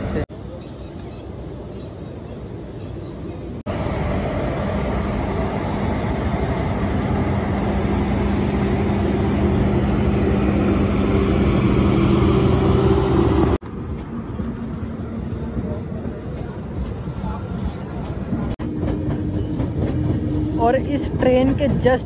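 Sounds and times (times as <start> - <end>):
electric train passing: 3.5 - 22.0.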